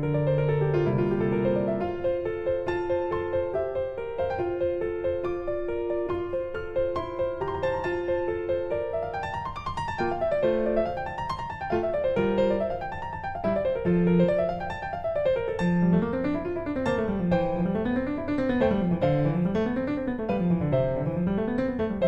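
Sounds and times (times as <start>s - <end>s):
piano arpeggios over bass line: 0.0s - 22.0s.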